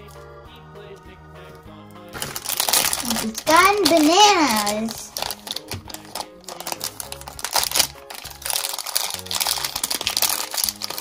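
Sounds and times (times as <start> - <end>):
background music: 0.0 - 11.0
plastic packaging crinkling: 2.2 - 11.0.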